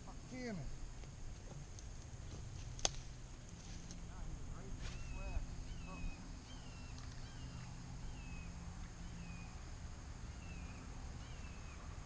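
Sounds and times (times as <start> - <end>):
steady high thin whine: 0.0 - 12.0.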